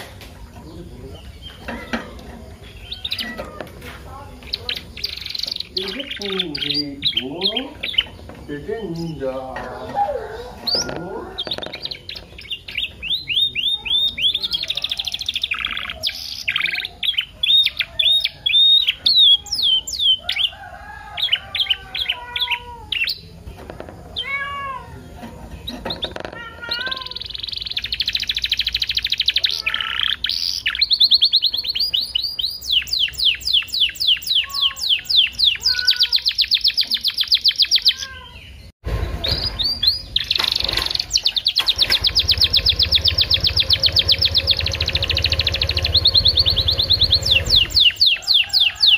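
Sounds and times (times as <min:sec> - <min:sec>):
canary singing trills: 0:00.4 - 0:48.9.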